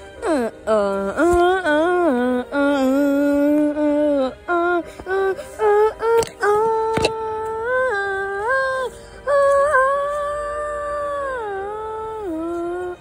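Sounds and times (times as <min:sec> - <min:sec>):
wordless vocal melody: 0:00.0 - 0:13.0.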